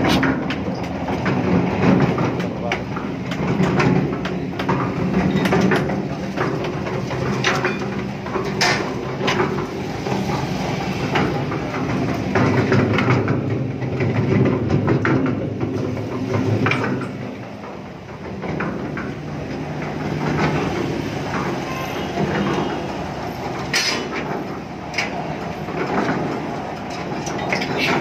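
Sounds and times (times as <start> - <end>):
clicks and knocks from mixer drum: 0.0 - 28.0
concrete mixer motor hum: 0.0 - 28.0.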